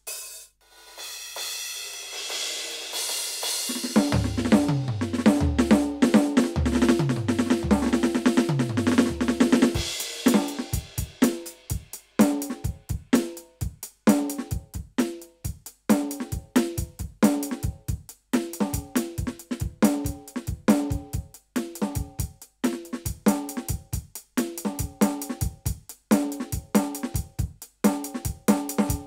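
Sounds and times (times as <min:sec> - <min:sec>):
kick snare and hi-hat groove: 0:00.0 - 0:29.0
tom fill on electronic drums: 0:00.0 - 0:29.0.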